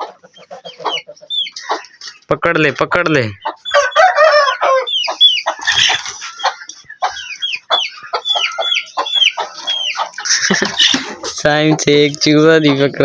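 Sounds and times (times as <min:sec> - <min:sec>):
chickens calling in alarm: 0:00.0 - 0:13.0.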